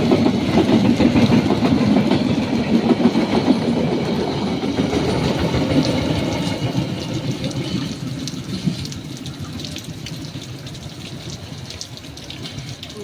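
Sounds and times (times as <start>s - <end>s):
train wheel clatter: 0.0s - 11.5s
diesel train engine rumble: 0.0s - 11.6s.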